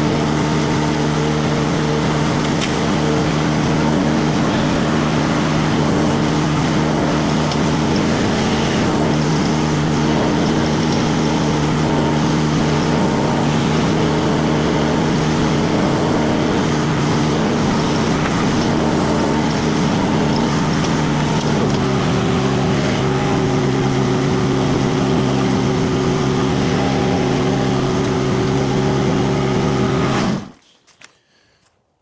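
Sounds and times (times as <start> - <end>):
diesel engine running under load: 0.0 - 30.6.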